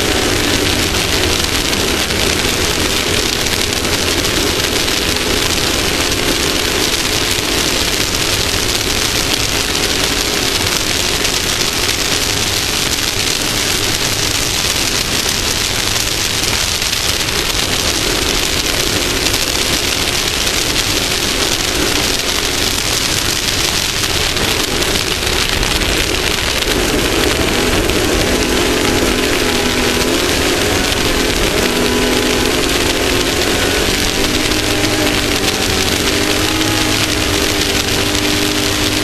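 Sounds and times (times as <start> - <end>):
rush of wind and road noise: 0.0 - 39.0
vehicle engine running: 0.0 - 39.0.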